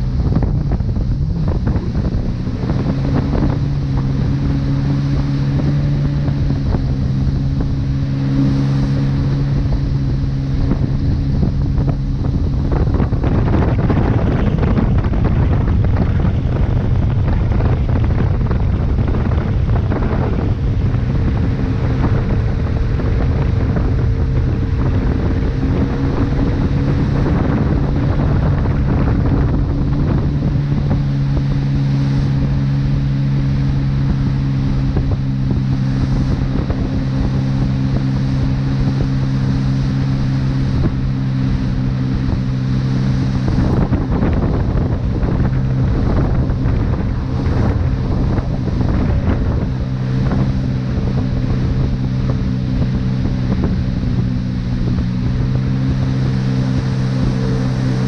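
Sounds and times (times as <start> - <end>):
boat engine drone: 0.0 - 58.0
churning wake water: 0.0 - 58.0
wind buffeting microphone: 0.0 - 58.0.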